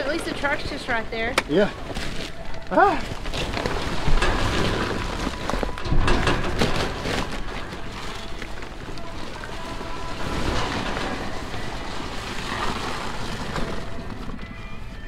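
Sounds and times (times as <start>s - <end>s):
pellet bags rustling: 0.0s - 15.0s.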